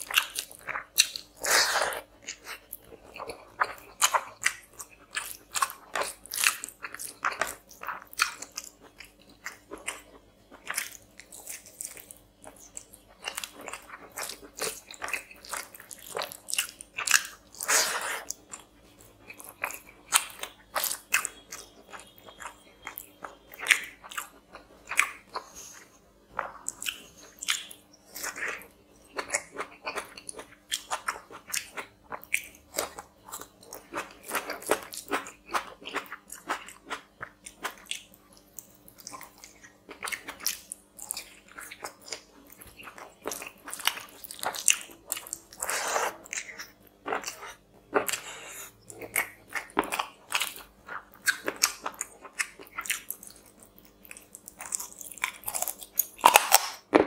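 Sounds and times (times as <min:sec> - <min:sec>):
man chewing food: 0:00.0 - 0:57.0.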